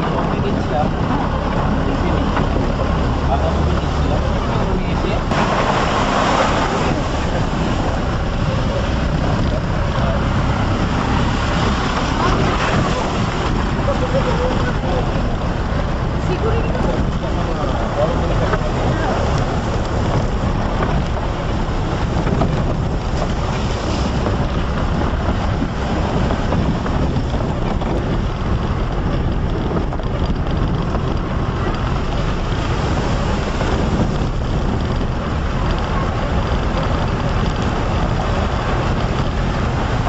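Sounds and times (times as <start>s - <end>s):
vehicle driving: 0.0s - 40.0s
wind buffeting microphone: 0.0s - 40.0s.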